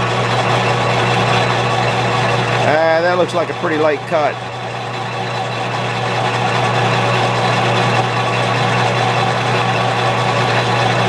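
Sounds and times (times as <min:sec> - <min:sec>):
metal lathe motor hum: 0:00.0 - 0:11.0.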